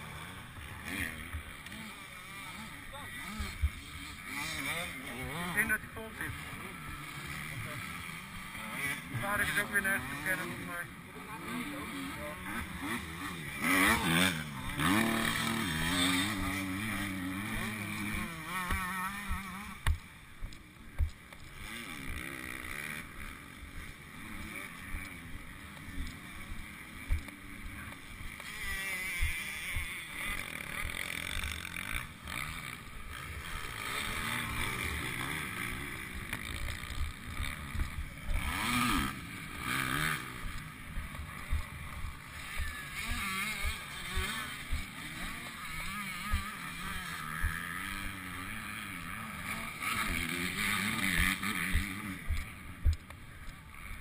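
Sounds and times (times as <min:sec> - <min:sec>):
distant motocross bikes revving: 0:00.0 - 0:54.0.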